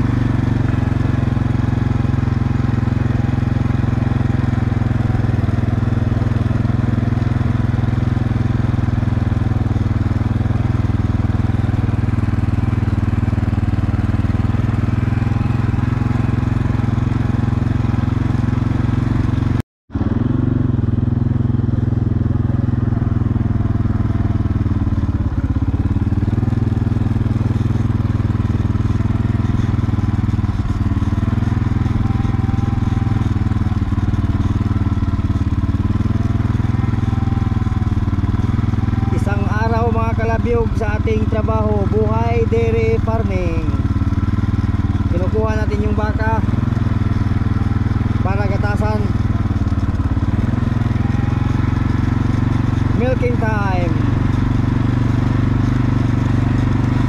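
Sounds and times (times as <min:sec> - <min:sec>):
engine droning steadily: 0:00.0 - 0:57.0.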